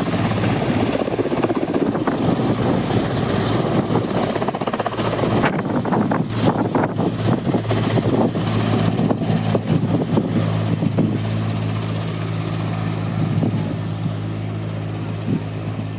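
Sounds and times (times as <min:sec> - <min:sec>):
helicopter rotor chop: 0:00.0 - 0:15.9
turbine whine: 0:00.0 - 0:15.9.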